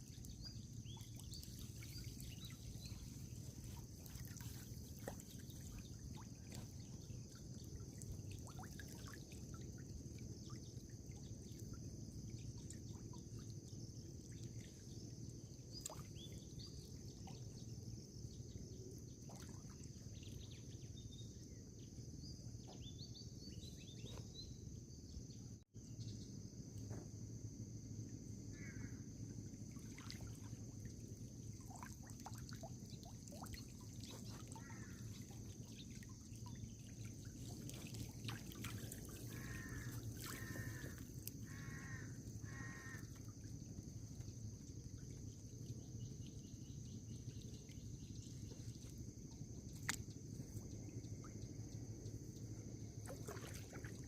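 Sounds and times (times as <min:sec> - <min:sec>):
low water: 0:00.0 - 0:54.0.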